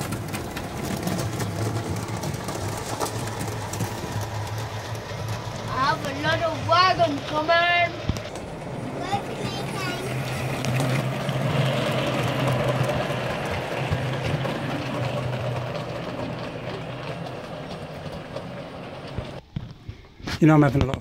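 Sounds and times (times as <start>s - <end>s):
model train motor hum: 0.0s - 19.4s
wheels rumbling on rail: 0.0s - 19.5s.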